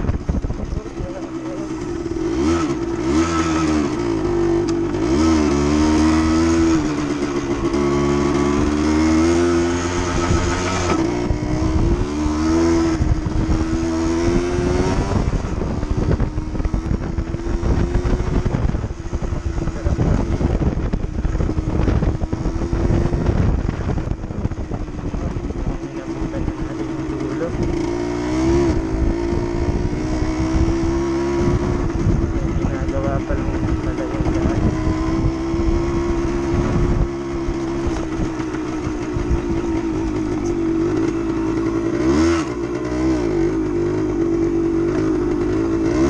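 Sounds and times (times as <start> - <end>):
dirt bike engine running: 0.0 - 46.0.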